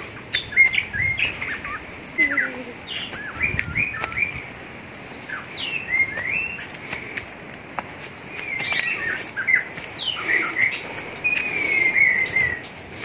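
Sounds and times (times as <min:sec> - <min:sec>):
birds chirping and singing: 0:00.0 - 0:07.3, 0:08.1 - 0:13.0.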